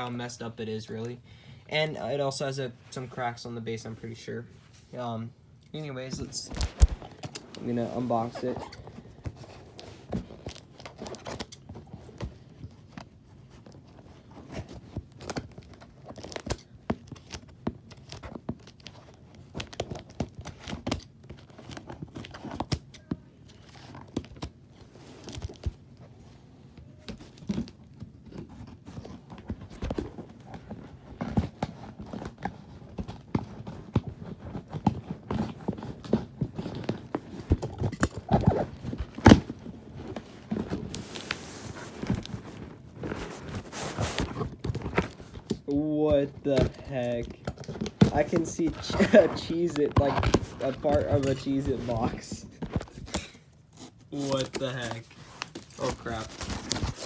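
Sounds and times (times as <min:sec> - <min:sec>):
cardboard box being unpacked: 0:06.1 - 0:57.0.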